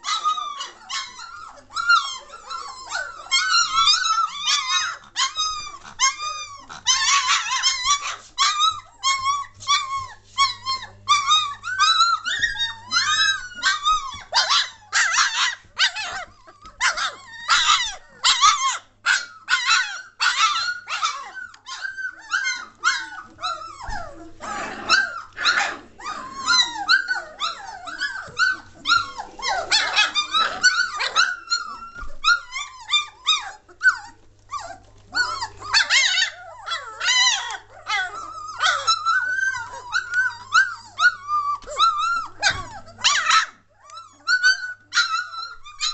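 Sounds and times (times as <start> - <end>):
puppies yipping and whining: 0.0 - 45.9.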